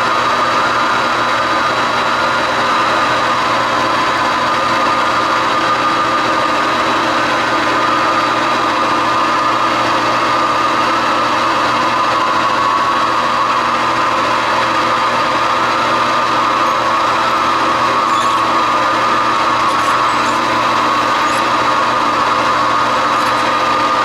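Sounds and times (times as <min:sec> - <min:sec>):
metal lathe humming and whining: 0:00.0 - 0:24.0.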